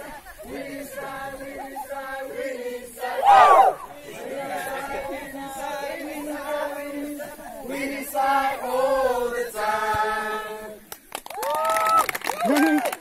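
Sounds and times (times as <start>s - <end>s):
group chanting held notes: 0.0s - 10.8s.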